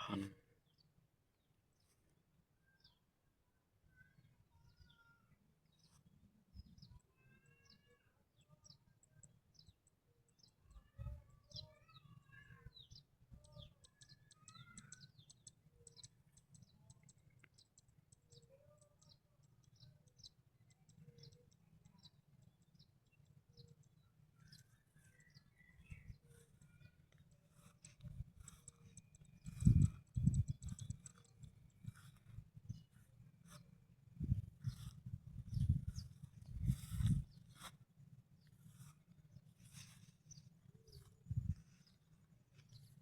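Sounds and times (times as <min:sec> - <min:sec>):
small birds chirping: 0:00.0 - 0:03.2, 0:03.8 - 0:43.0.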